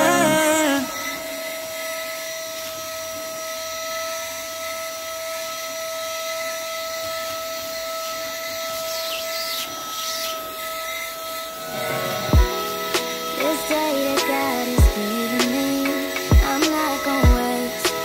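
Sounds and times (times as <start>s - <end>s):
cordless vacuum whining: 0.0s - 18.0s.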